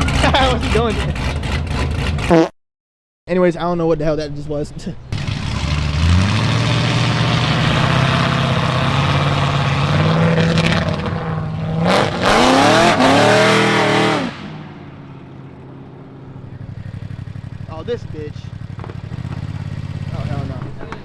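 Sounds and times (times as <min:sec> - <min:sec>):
car engine revving: 0:00.0 - 0:02.4, 0:05.2 - 0:20.8.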